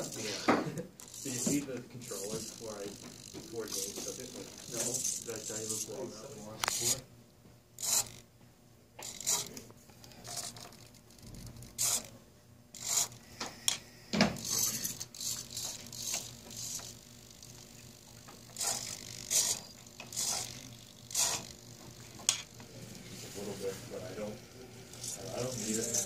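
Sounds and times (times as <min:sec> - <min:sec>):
servo motors whirring: 0:00.0 - 0:07.0, 0:07.8 - 0:08.2, 0:09.0 - 0:26.0.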